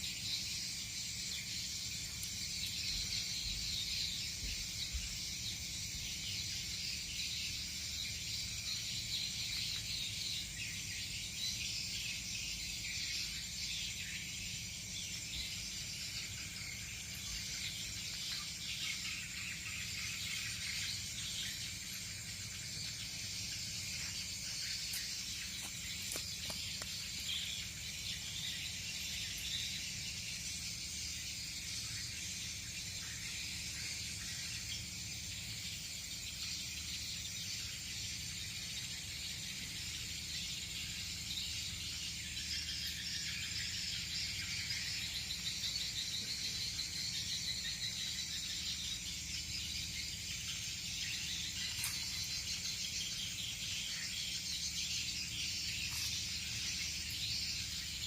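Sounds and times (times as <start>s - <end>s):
crickets and insects chirring: 0.0s - 58.0s.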